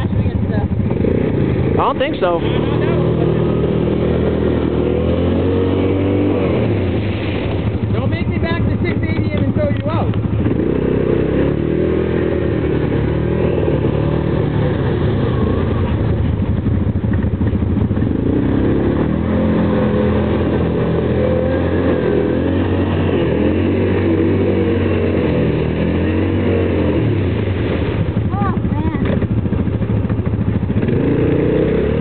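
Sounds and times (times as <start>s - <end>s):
atv engine revving: 0.0s - 32.0s
vehicle pushing through slushy water: 0.0s - 32.0s.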